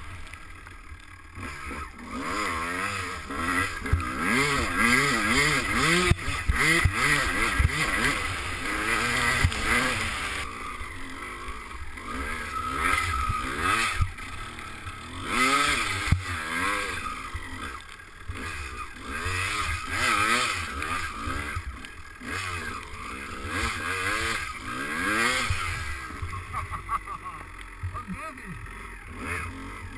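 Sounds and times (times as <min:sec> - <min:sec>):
motocross bike engine revving: 0:00.0 - 0:29.9.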